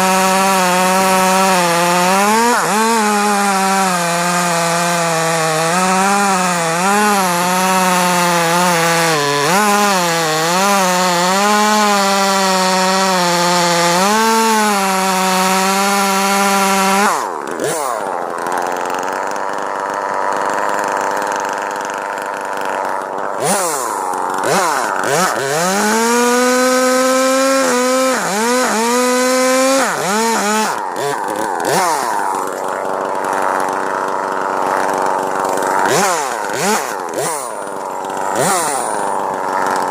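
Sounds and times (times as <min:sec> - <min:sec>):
chainsaw engine cutting wood: 0:00.0 - 0:39.9.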